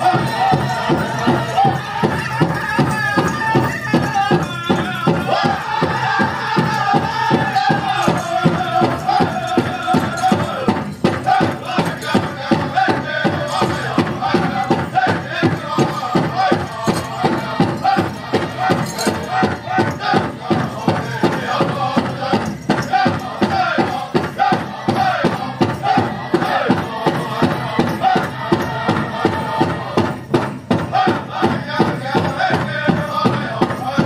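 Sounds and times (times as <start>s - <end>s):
big drum steady beat: 0.0s - 34.0s.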